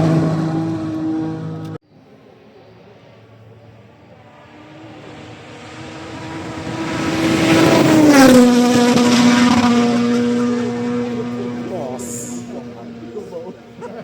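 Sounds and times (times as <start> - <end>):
rally car engine passing by: 0.0 - 14.0.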